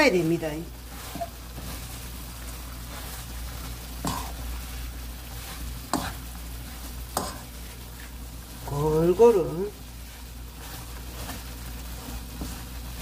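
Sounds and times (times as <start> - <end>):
food sizzling in sauce: 0.0 - 13.0.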